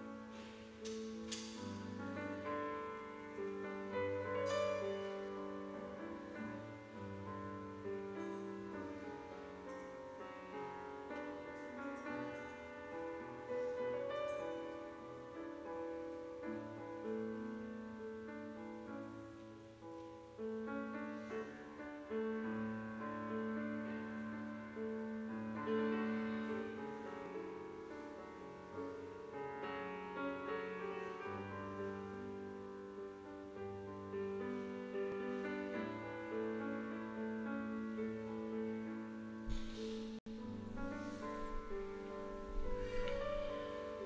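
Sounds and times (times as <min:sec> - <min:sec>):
grand piano playing: 0:00.0 - 0:44.0.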